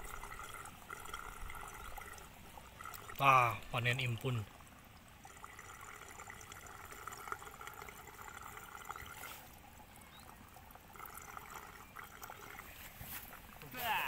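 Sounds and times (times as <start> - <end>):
faint trickle of running water: 0.0 - 14.0.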